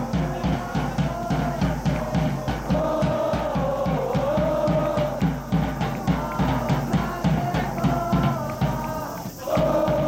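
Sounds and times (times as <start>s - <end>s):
music with steady drumbeat: 0.0s - 10.0s.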